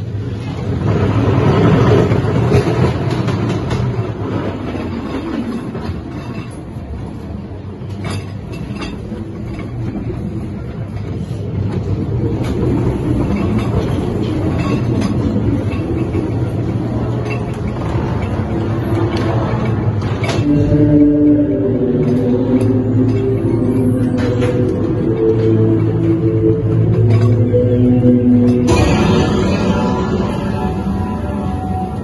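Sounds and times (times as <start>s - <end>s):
ride car rumbling on track: 0.0s - 32.0s
wheels clicking and knocking: 0.1s - 29.0s.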